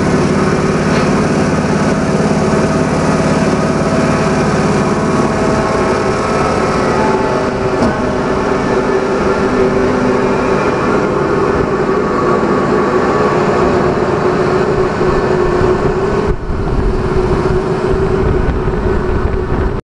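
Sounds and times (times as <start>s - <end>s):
low rumble: 0.0s - 19.8s
machine drone: 0.0s - 19.8s.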